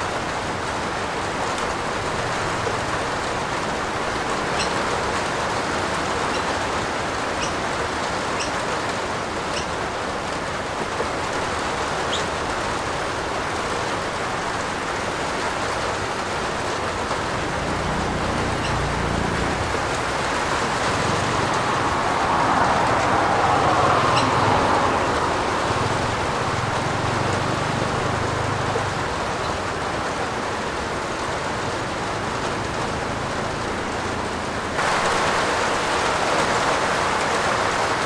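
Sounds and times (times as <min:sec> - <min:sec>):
rain falling on a roof: 0:00.0 - 0:38.0.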